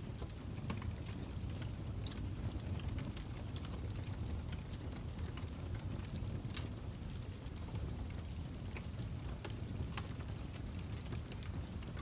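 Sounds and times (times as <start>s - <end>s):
low rumble of flame: 0.0s - 12.0s
wood fire pops and snaps: 0.0s - 12.0s.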